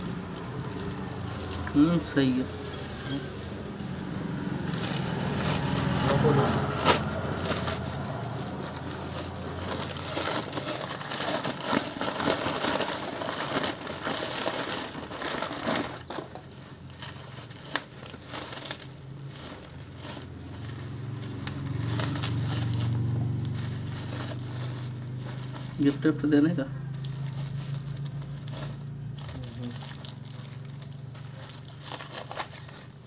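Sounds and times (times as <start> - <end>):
plastic wrap and paper crinkling: 0.0 - 33.0.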